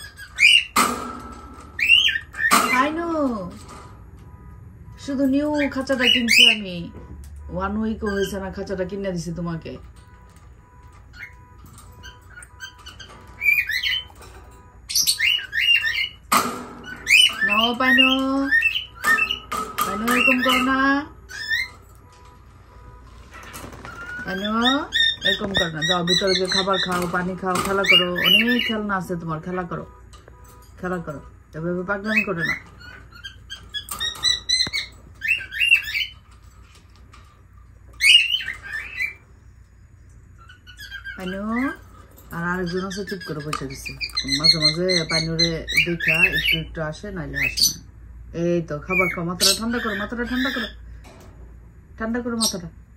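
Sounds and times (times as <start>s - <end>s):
lovebird chirping: 0.0s - 36.8s, 37.9s - 48.0s, 48.8s - 51.0s.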